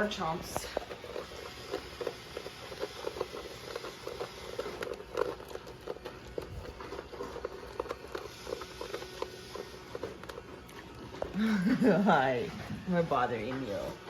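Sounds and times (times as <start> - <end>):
dog crunching food: 0.0 - 14.0.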